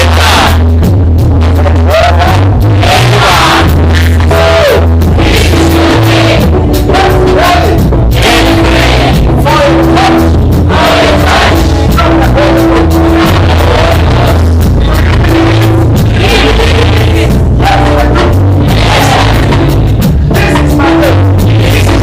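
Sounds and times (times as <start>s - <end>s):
people singing: 0.0s - 0.7s, 1.6s - 22.0s
drum beat: 0.0s - 22.0s
heavy bass: 0.0s - 22.0s
sustained keyboard chords: 0.0s - 22.0s.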